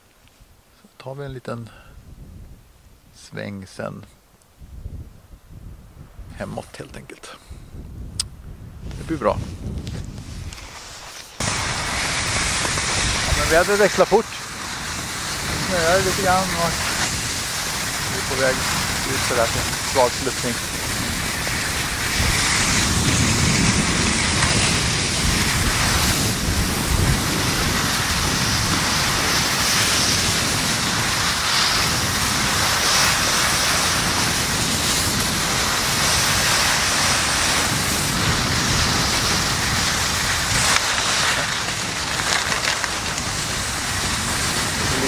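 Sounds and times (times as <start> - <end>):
wind buffeting microphone: 1.9 - 3.2, 4.5 - 45.0
skis gliding over snow: 8.8 - 45.0.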